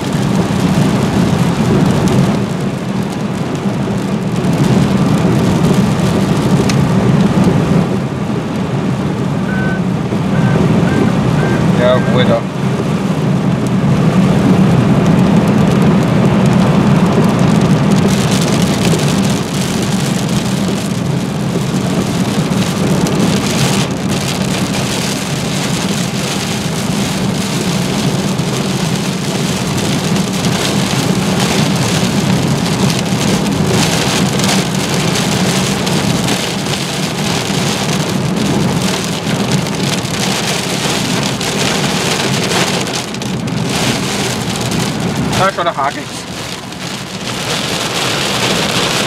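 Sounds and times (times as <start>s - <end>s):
heavy rain on car windshield: 0.0s - 49.0s
road noise hum: 0.0s - 49.0s.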